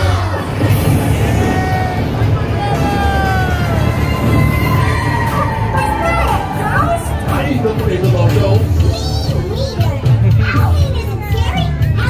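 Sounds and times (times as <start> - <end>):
loud parade music: 0.0 - 12.0.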